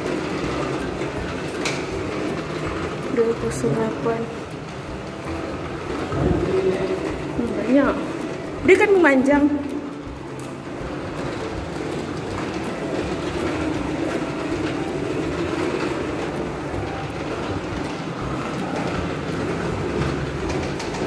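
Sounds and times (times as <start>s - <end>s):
wheeled suitcase rolling: 0.0s - 21.0s.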